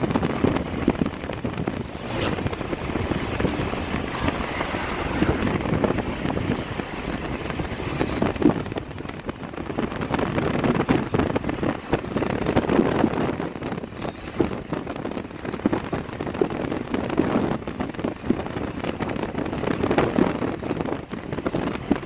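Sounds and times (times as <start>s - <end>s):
road vehicle rumble: 0.0s - 22.0s
wind buffeting microphone: 0.0s - 22.0s.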